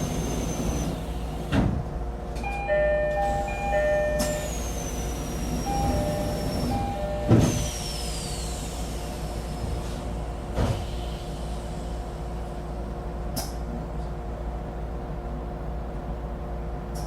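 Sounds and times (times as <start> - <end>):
train hum and rumble: 0.0 - 17.0.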